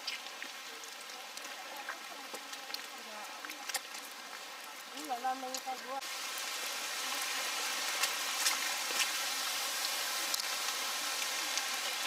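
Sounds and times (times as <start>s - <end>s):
heavy rain falling: 0.0s - 12.0s
raindrops ticking close by: 0.0s - 12.0s.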